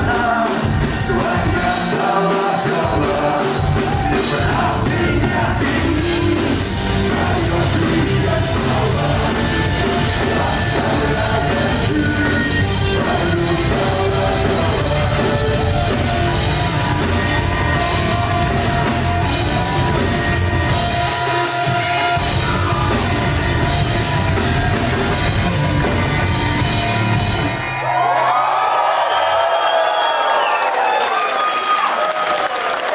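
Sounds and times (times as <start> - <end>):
lead singer: 0.0 - 27.0
live rock band: 0.0 - 27.8
crowd cheering and yelling: 0.0 - 32.9.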